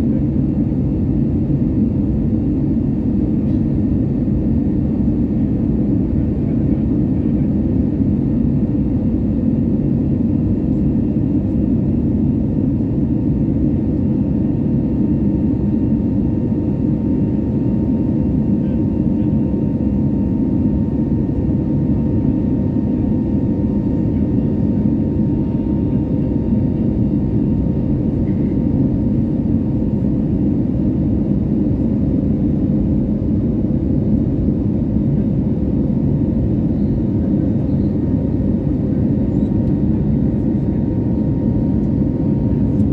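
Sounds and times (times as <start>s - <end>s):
faint engine whine: 0.0s - 42.9s
jet engine rumble in cabin: 0.0s - 42.9s.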